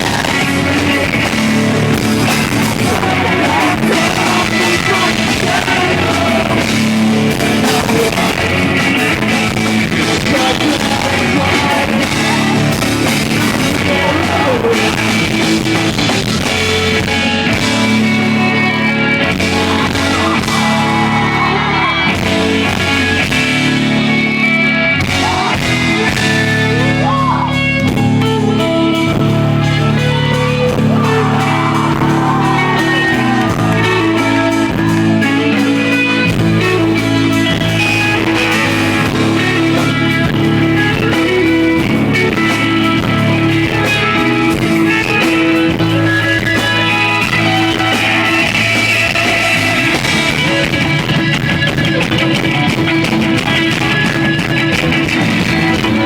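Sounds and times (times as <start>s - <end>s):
electric guitars: 0.0s - 56.0s
live rock band: 0.0s - 56.0s.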